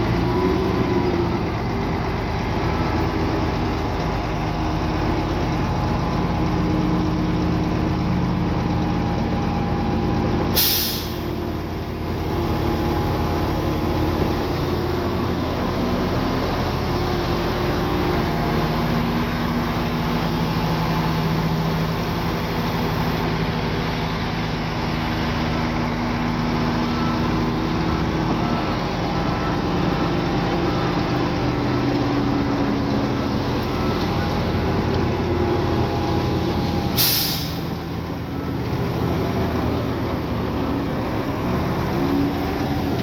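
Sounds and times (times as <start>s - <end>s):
heavy diesel engines running: 0.0s - 43.0s.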